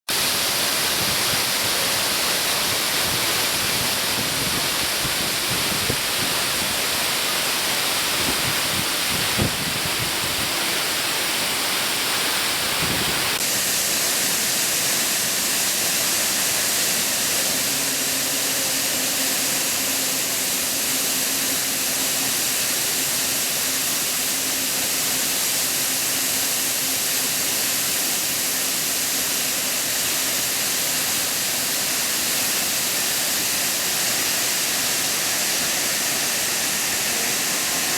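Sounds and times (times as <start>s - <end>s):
waterfall rushing: 0.1s - 37.9s.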